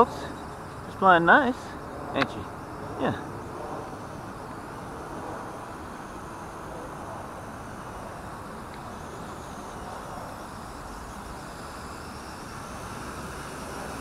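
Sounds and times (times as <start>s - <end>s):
toy helicopter rotors whirring: 0.0s - 14.0s.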